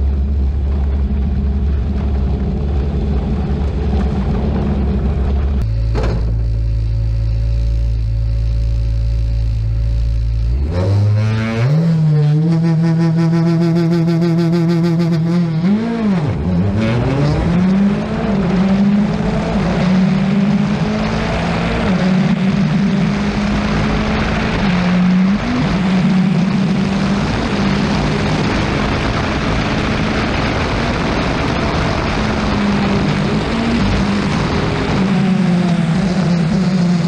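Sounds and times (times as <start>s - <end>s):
rally car engine revving: 0.0s - 37.0s
road and wind noise: 0.0s - 37.0s.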